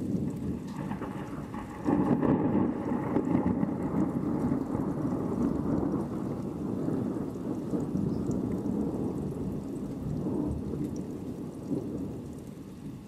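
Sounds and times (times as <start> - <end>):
rolling thunder: 0.0 - 12.4
faint rain ticking: 0.0 - 13.0.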